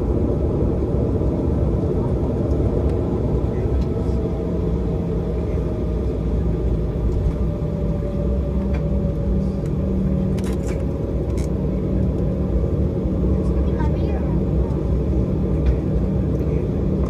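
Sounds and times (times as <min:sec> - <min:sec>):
jet engine low rumble: 0:00.0 - 0:17.0.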